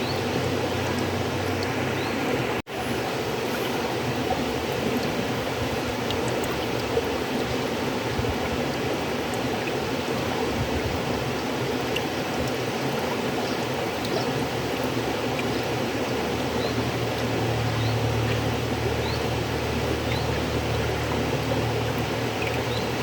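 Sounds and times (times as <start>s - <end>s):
river water flowing: 0.0s - 23.0s
small splashes and drips: 3.0s - 23.0s.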